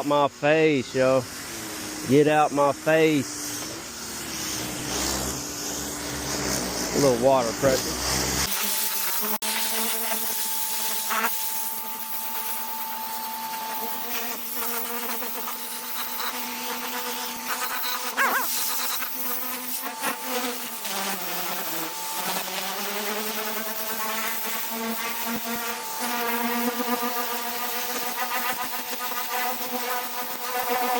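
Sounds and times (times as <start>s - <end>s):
pressure washer motor hum: 0.0s - 30.8s
water spray hissing: 0.1s - 30.6s.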